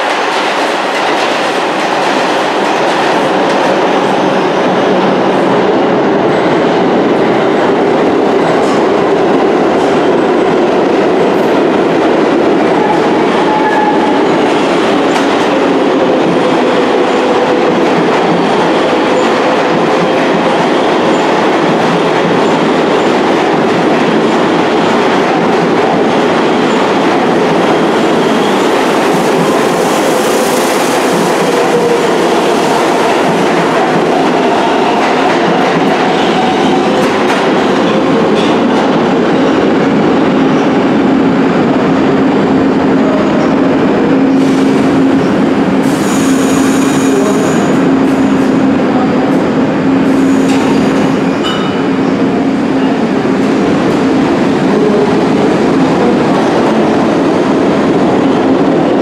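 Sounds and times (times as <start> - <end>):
subway train wheels clattering: 0.0 - 59.0.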